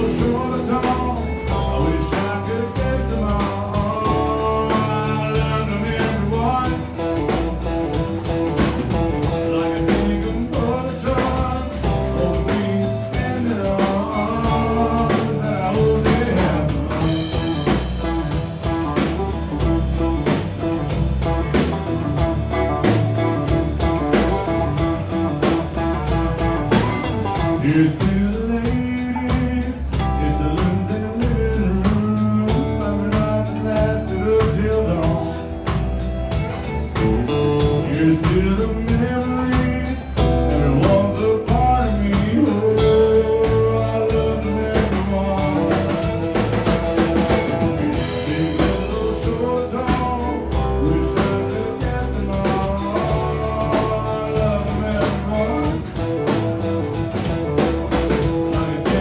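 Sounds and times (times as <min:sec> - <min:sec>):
live country band: 0:00.0 - 0:59.0.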